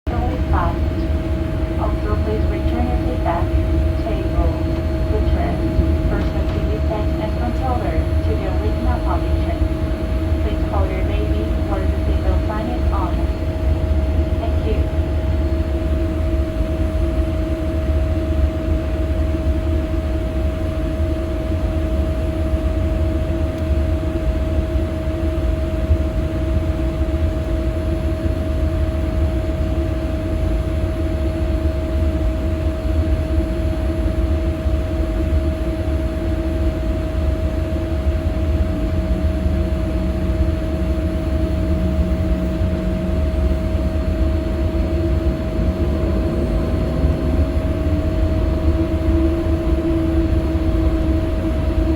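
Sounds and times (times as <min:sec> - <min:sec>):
jet engines rumbling: 0:00.0 - 0:22.9, 0:33.0 - 0:51.9.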